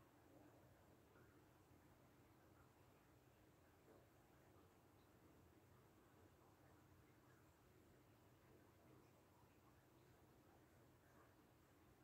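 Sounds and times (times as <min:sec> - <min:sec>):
faint light rain: 0:00.0 - 0:12.0.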